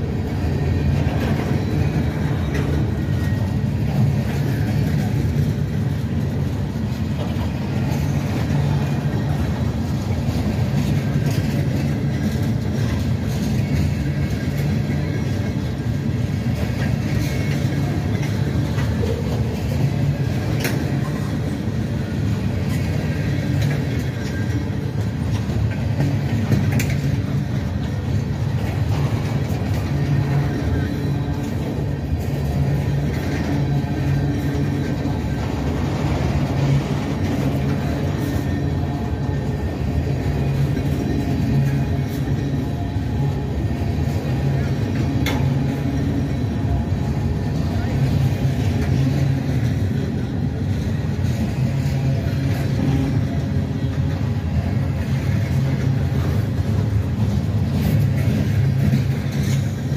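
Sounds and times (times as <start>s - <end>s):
train rumbling by: 0.0s - 59.9s
wheels clicking on rails: 0.0s - 59.9s.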